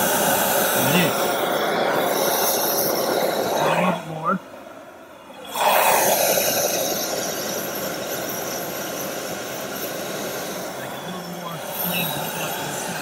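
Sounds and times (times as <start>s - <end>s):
gas burner flame roaring: 0.0s - 13.0s.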